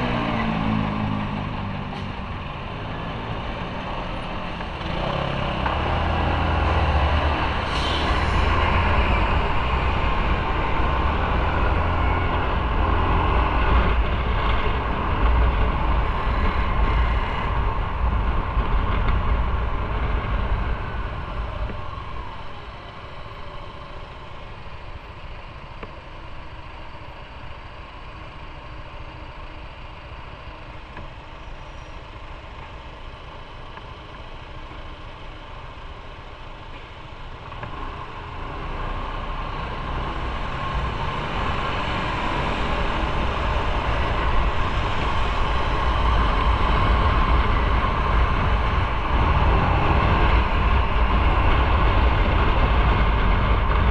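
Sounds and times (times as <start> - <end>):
motorcycle engine: 0.0 - 53.9
road noise: 0.0 - 53.9.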